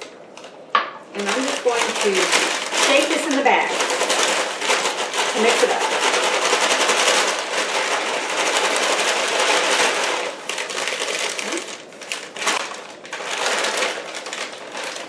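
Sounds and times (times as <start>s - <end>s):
paper bag crinkling: 0.4s - 15.0s
popcorn rattling in paper bag: 0.4s - 15.0s.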